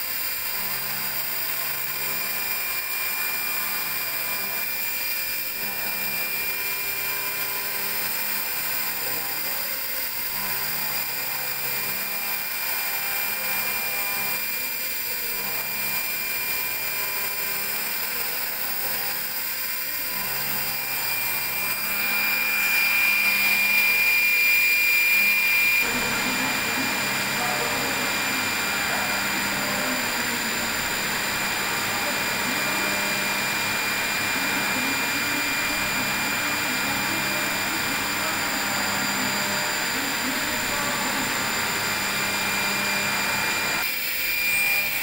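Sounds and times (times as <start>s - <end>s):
machining spindle whine: 0.0s - 45.0s.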